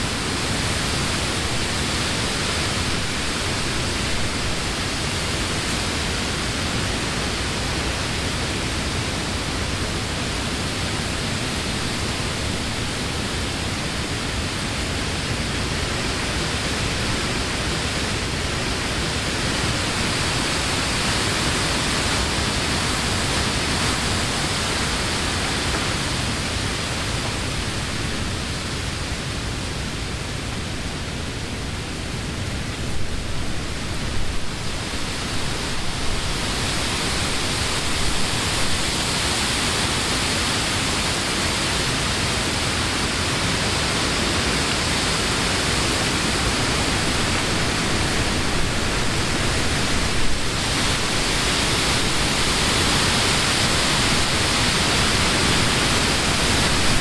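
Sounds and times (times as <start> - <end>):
wind rushing through leaves: 0.0 - 57.0.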